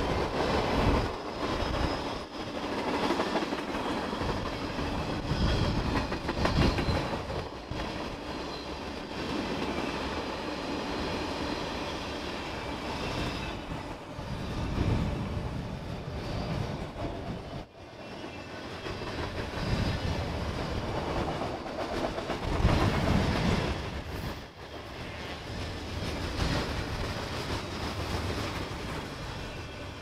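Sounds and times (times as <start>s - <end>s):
clickety-clack of wheels: 0.0s - 10.5s, 12.9s - 30.0s
freight train wheels on rails: 0.0s - 30.0s.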